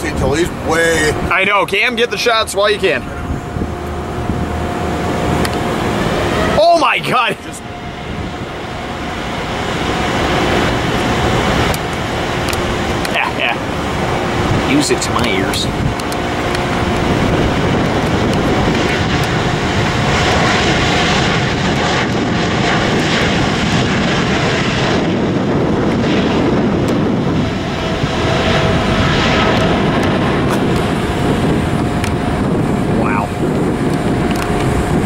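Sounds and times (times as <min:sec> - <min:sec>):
jet engines at takeoff thrust: 0:00.0 - 0:35.0.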